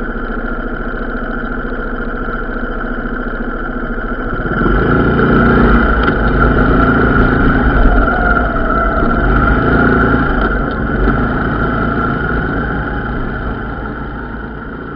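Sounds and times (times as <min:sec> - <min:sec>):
diesel train engine running: 0:00.0 - 0:14.9.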